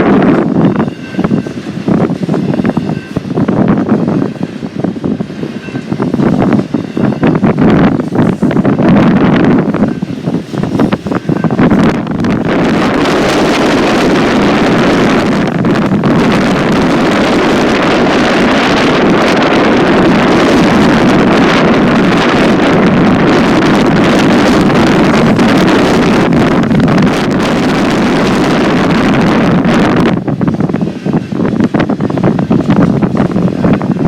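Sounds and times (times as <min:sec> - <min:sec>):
freight train rumbling past: 0:00.0 - 0:34.0
wind buffeting microphone: 0:00.0 - 0:34.0.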